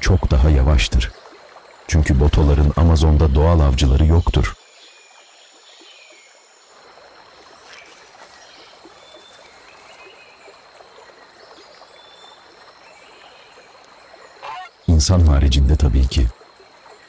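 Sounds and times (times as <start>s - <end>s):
trickling lapping water: 0.0s - 17.0s.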